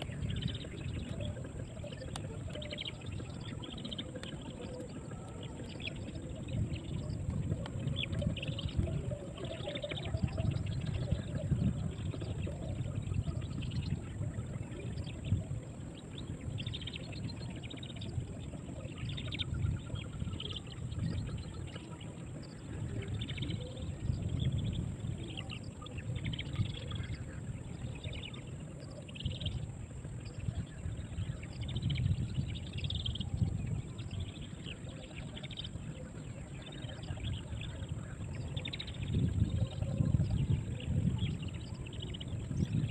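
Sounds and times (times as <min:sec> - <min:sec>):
small birds chirping: 0:00.0 - 0:42.9
steady low rumble: 0:00.0 - 0:42.9.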